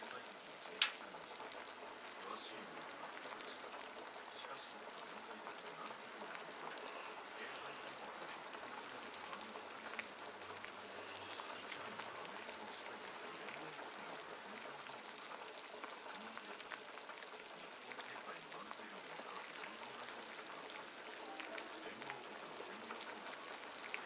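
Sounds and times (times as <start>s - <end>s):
broth boiling and bubbling: 0.0s - 24.0s.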